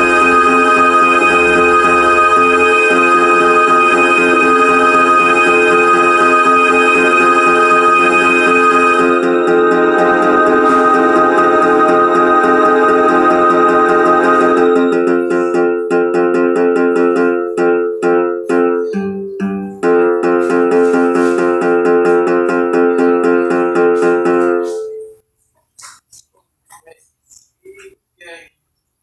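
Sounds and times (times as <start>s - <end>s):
instrumental music chords and stabs: 0.0s - 25.2s.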